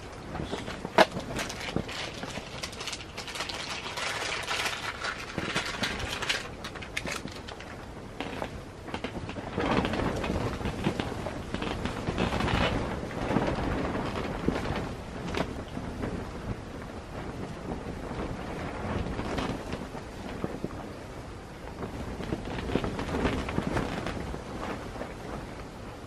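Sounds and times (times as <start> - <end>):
wind flapping tent fabric: 0.0 - 26.0.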